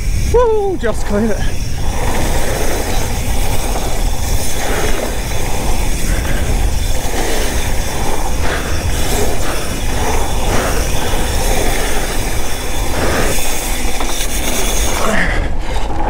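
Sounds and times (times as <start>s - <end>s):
bike tyres rumbling on dirt: 0.0s - 16.0s
wind rushing on microphone: 0.0s - 16.0s.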